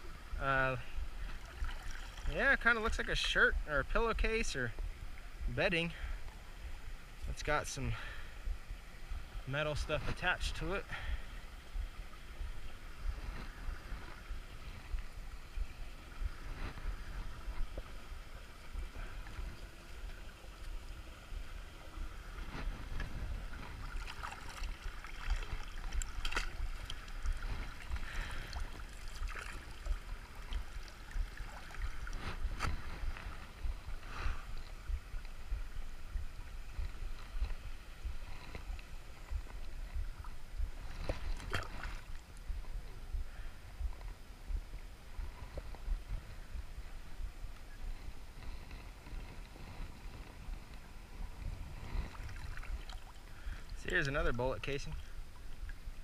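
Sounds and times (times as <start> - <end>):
river water sloshing and splashing: 0.0 - 2.9, 6.2 - 42.8, 48.0 - 54.3.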